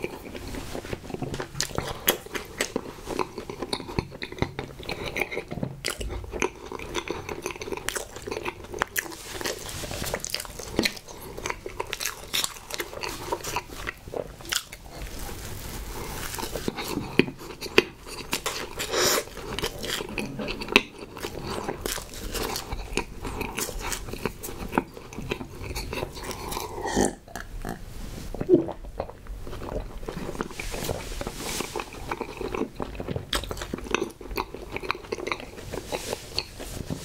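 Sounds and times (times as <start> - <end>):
chewing and biting cake: 0.0 - 37.0.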